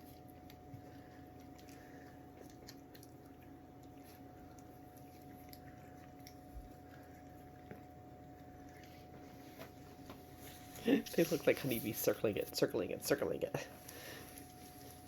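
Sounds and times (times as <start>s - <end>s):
puppies lapping food: 0.0s - 15.0s.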